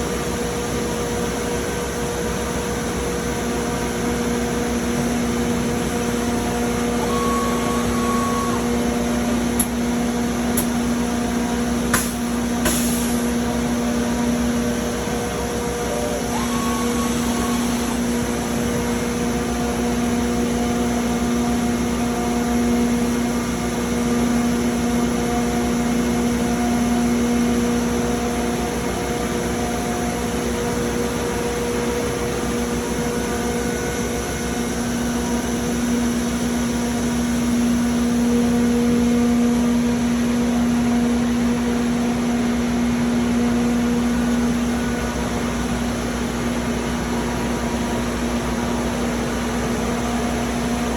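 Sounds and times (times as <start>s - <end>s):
machining center humming: 0.0s - 50.9s.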